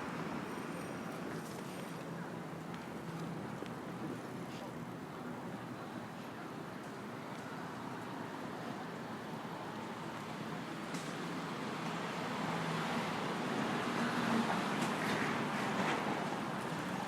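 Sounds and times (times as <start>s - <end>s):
hum of passing cars: 0.0s - 17.0s.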